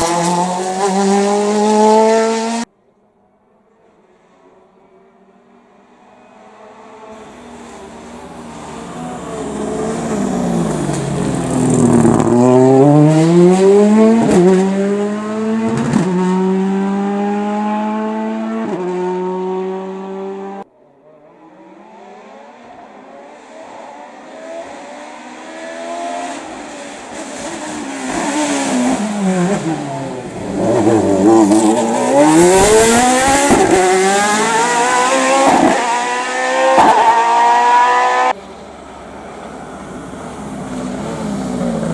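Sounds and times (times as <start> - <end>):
racing car engine revving: 0.0 - 2.7, 6.1 - 20.6, 21.4 - 41.9.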